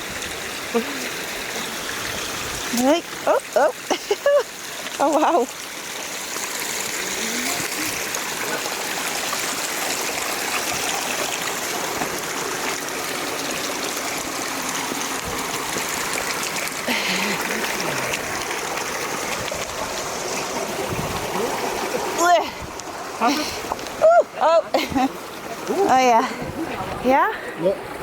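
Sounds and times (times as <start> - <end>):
stream water babbling: 0.0 - 28.0.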